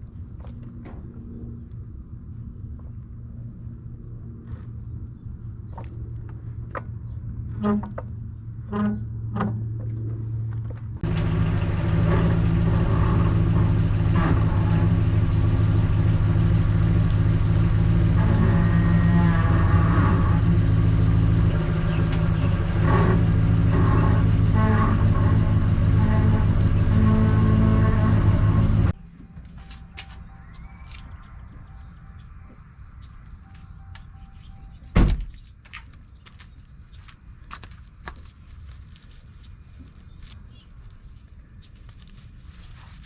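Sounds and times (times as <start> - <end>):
vehicle engine running steadily: 0.0 - 35.5.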